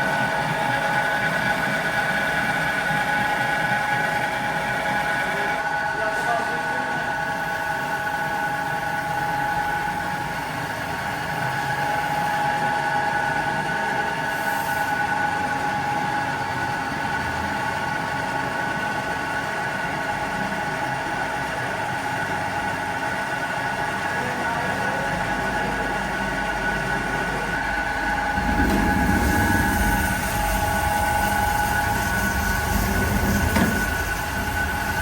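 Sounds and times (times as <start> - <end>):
workshop machinery whine: 0.0 - 35.0.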